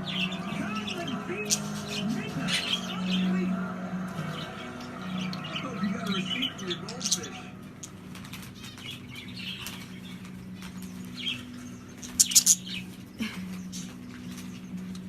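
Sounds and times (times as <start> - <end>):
bird chirps: 0.0 - 3.5, 4.2 - 15.0
steady low hum: 0.0 - 15.0.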